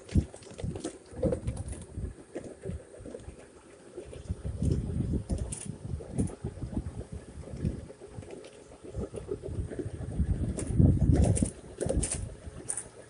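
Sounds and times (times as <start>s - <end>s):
wind buffeting microphone: 0.0s - 3.4s, 4.0s - 13.0s.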